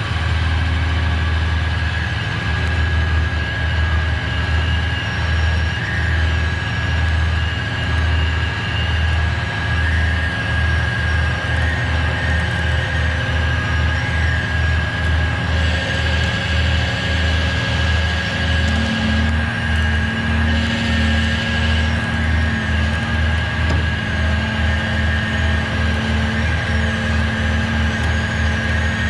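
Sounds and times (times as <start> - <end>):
truck engine drone: 0.0 - 29.0
winch whine: 0.0 - 29.0.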